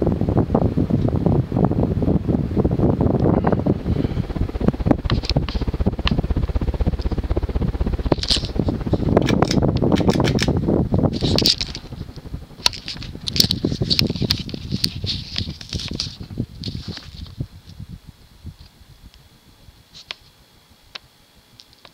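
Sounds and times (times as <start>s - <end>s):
ceiling fan rumbling: 0.0s - 21.9s.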